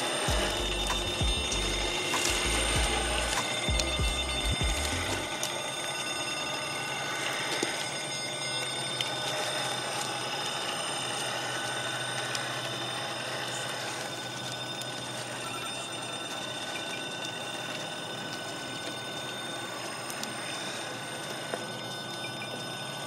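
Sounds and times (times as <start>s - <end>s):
toy car motor and gears whining: 0.0s - 23.0s.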